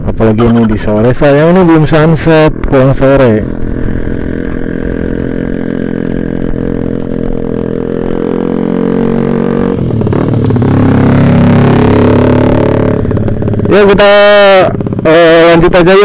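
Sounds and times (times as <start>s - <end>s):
motorcycle engines idling: 0.7s - 8.7s, 9.8s - 16.0s.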